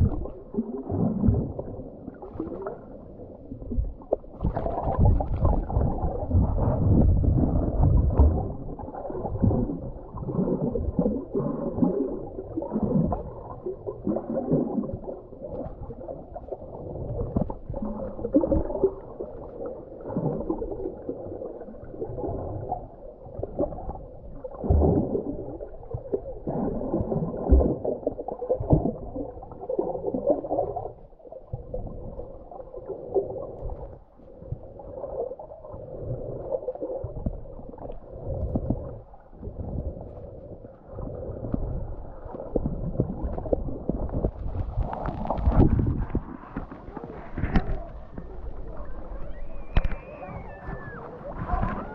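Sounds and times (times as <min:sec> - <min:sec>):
muffled water sloshing and gurgling: 0:00.0 - 0:51.9.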